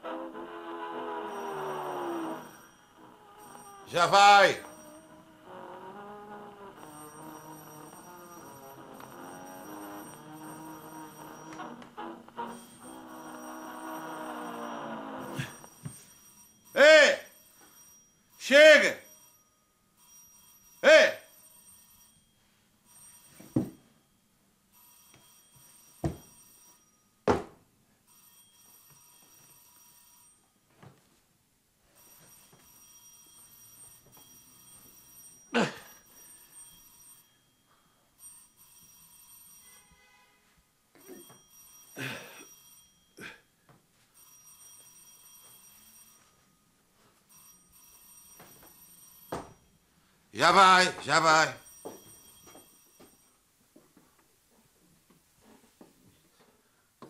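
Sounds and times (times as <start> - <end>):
electric doorbell ringing: 0.0 - 27.2, 28.1 - 30.6, 31.9 - 40.4, 41.0 - 43.3, 44.2 - 49.8, 50.4 - 53.4.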